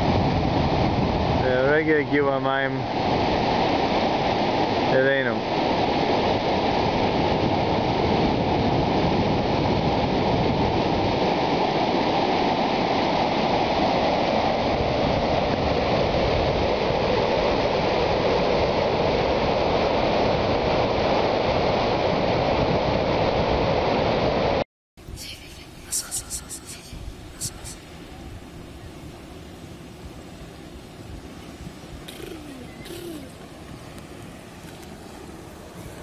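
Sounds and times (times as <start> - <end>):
turbulent water rushing: 0.0 - 24.6, 25.3 - 36.0.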